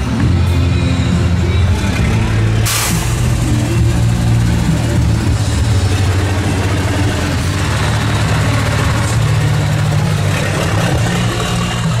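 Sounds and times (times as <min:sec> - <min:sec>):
diesel truck engine at low revs: 0:00.0 - 0:12.0.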